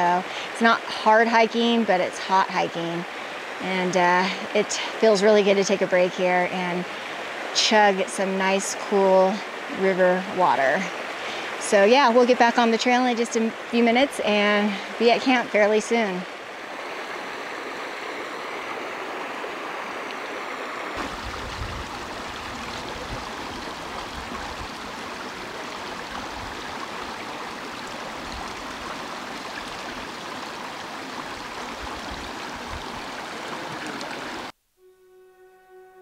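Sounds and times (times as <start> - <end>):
stream rushing over rocks: 0.0 - 34.5.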